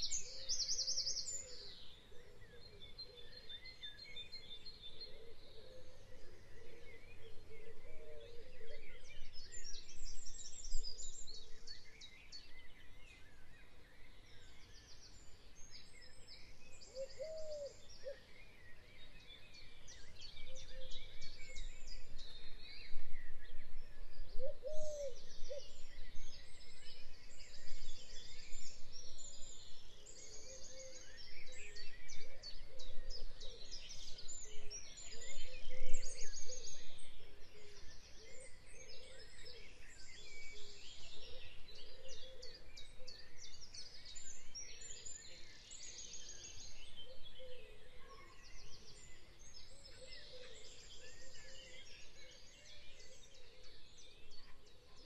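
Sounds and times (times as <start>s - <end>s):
birds singing and chirping: 0.0s - 55.0s.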